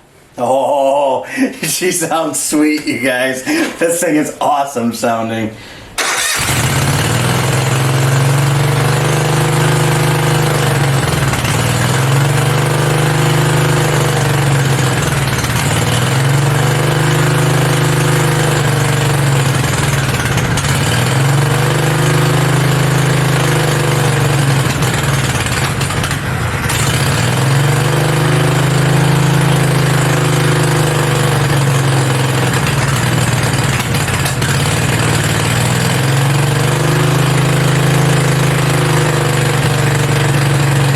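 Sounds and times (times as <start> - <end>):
engine idling high: 6.0 - 40.9.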